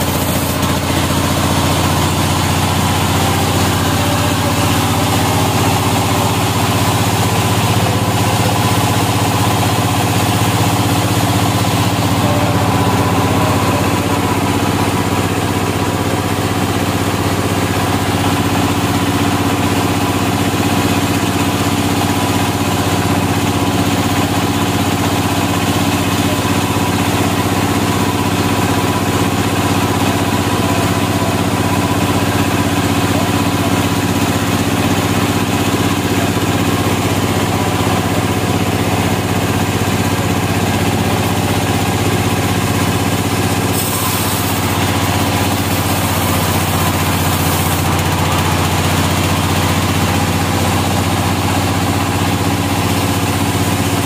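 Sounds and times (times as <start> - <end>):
machine power unit humming: 0.0 - 54.0.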